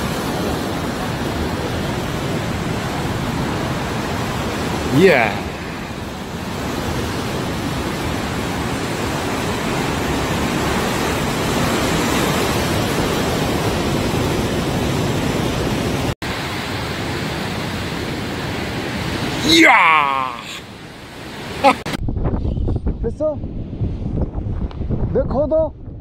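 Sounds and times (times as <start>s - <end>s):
wind at the microphone: 0.0s - 16.1s, 21.1s - 26.0s
sea surf: 0.0s - 22.0s.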